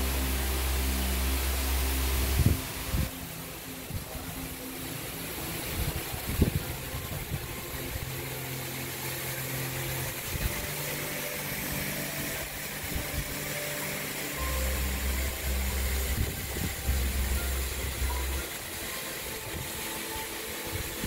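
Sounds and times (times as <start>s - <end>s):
machinery humming: 0.0s - 21.0s
soft constant hiss: 0.0s - 21.0s.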